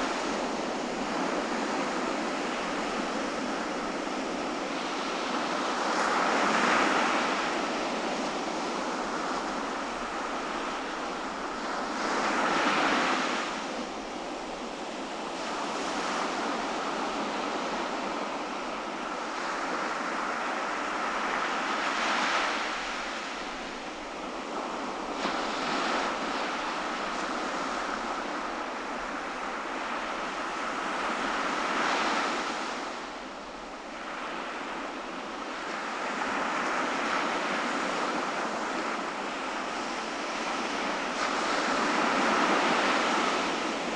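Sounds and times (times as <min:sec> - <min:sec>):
ocean surf on beach: 0:00.0 - 0:43.9.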